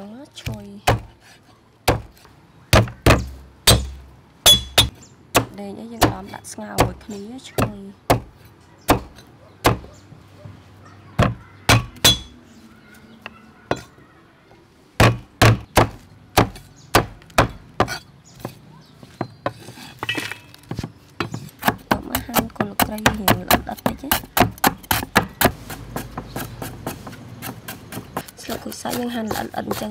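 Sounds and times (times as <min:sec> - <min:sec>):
cleaver chopping on wooden board: 0:00.4 - 0:01.2, 0:01.8 - 0:09.9, 0:11.2 - 0:12.4, 0:15.0 - 0:20.1, 0:20.7 - 0:29.9.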